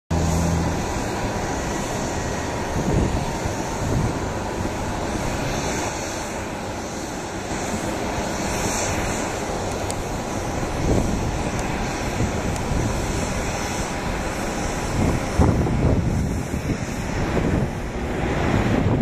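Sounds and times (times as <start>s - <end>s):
distant jet engines rushing: 0.1s - 19.0s
wind buffeting microphone: 0.1s - 19.0s.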